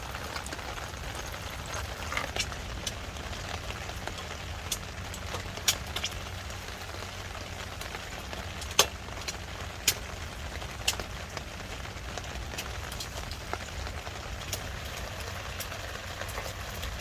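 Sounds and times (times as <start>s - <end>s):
rain hiss: 0.0s - 17.0s
sharp water drips: 0.0s - 17.0s.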